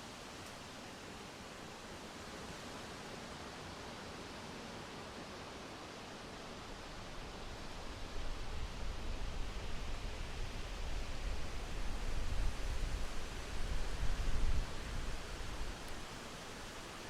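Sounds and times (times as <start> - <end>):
wind blowing with hiss: 0.0 - 17.0.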